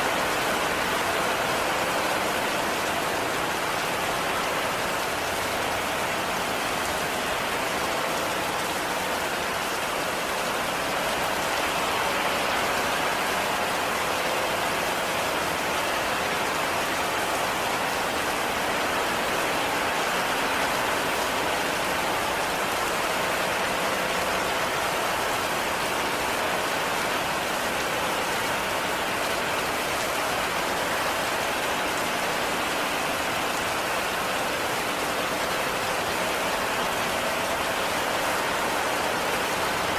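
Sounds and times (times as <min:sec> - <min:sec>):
heavy rain on a cabin: 0:00.0 - 0:39.9.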